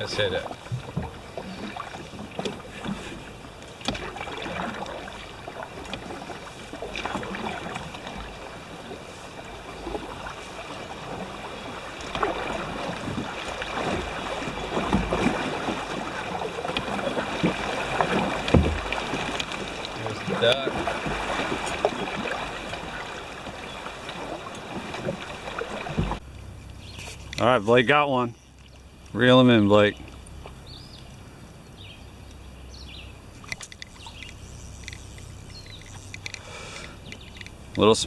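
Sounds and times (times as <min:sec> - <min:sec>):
paddle dipping in water: 0:00.0 - 0:38.0
water splashing around hull: 0:00.0 - 0:38.0.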